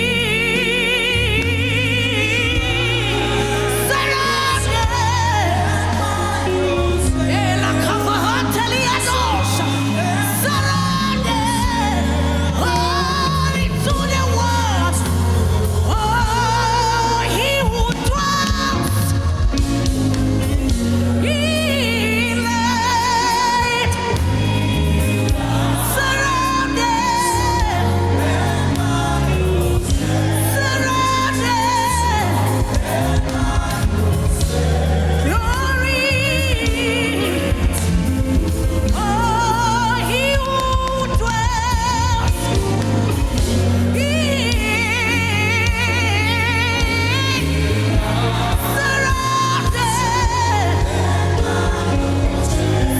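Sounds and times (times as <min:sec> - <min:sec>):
band with deep bass: 0:00.0 - 0:52.9
person singing with vibrato: 0:00.0 - 0:52.9.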